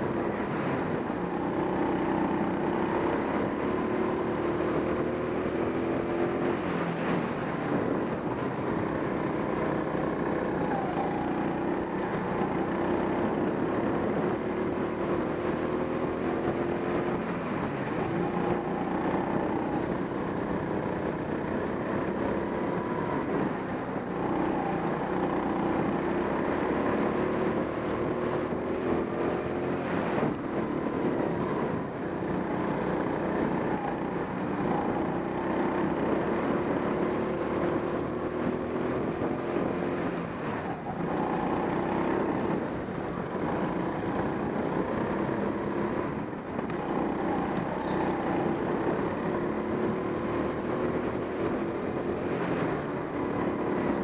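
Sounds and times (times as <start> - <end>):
go-kart motor running: 0.0 - 54.0
rushing wind: 0.0 - 54.0.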